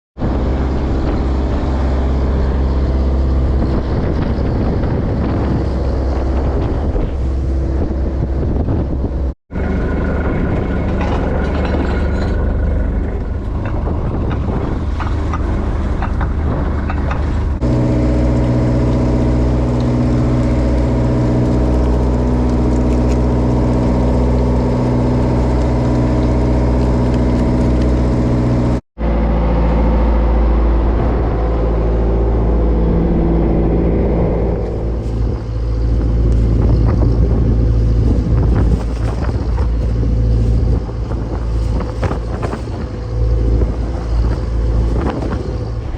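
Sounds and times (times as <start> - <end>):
boat engine droning: 0.2 - 45.9.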